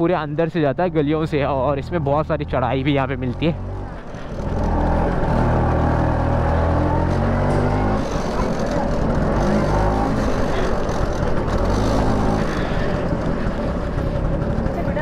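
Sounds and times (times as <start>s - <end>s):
scooter engine running: 2.8s - 15.0s.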